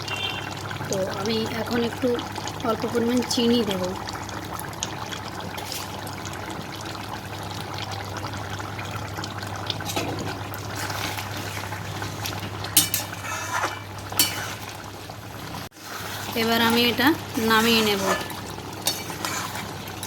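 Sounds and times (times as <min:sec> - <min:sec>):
curry bubbling and simmering: 0:00.0 - 0:20.0.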